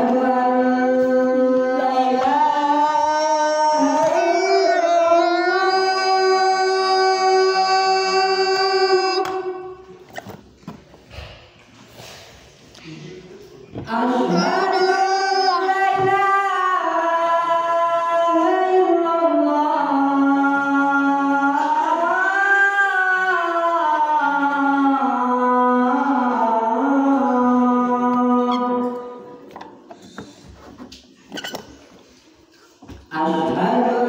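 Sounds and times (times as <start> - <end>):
man chanting call to prayer: 0.0 - 9.9, 12.9 - 29.5, 33.1 - 34.0.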